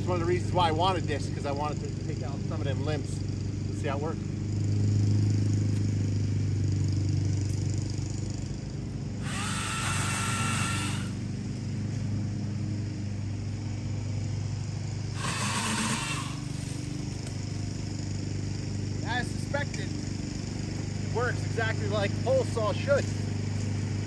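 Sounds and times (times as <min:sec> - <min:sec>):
low motor drone: 0:00.0 - 0:24.0
pole saw motor whine: 0:00.0 - 0:24.0.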